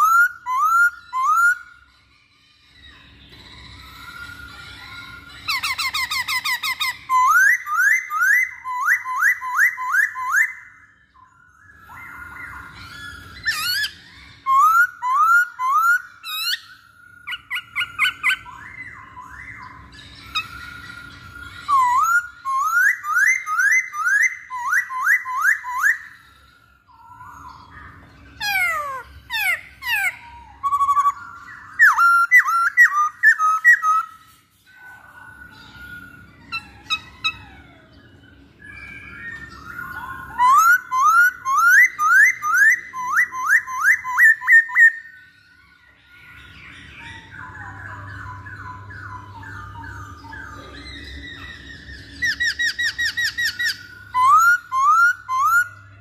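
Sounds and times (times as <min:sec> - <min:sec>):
bird singing whistled phrases: 0:00.0 - 0:56.0.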